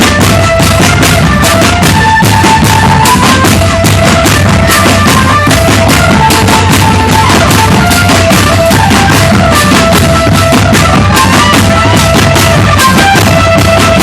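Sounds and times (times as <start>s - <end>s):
snare and bass drums: 0.0s - 14.0s
melody of held notes: 0.2s - 14.0s.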